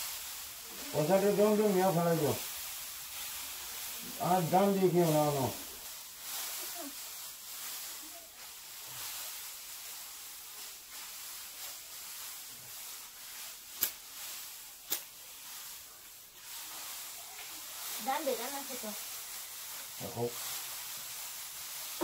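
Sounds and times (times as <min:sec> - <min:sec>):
dry straw rustling: 0:00.0 - 0:22.0.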